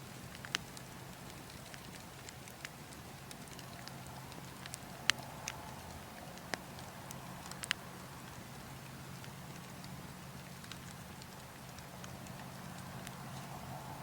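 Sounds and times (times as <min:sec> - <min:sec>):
low rush of wind: 0:00.0 - 0:14.0
wood fire crackling and popping: 0:00.0 - 0:14.0.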